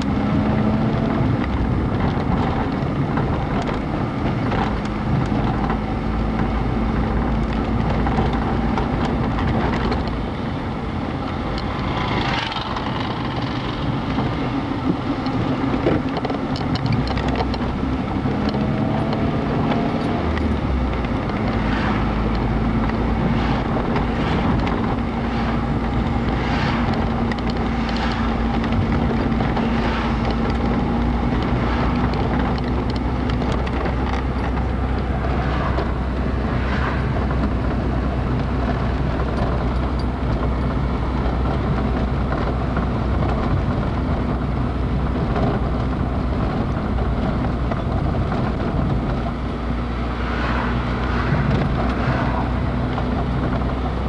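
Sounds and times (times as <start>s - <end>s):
car engine hum: 0.0s - 54.0s
road and tyre noise: 0.0s - 54.0s.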